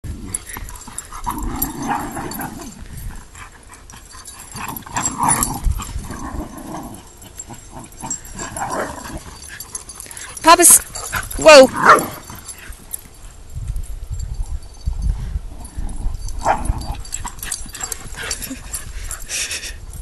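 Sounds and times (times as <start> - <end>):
small dogs growling and yipping: 0.1 - 12.8, 15.5 - 19.3.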